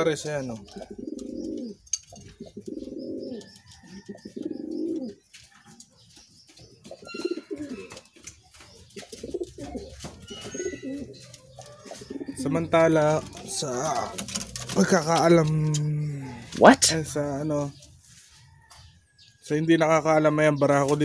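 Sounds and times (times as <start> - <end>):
pigeons cooing: 0.0 - 17.8.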